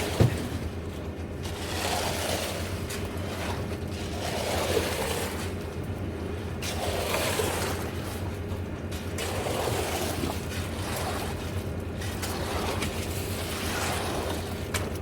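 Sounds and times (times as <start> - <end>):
engine humming steadily: 0.0 - 15.0.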